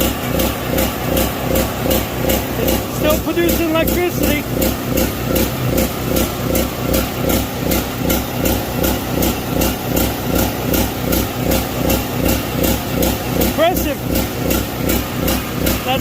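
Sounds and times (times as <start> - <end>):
generator engine surging: 0.0 - 16.0.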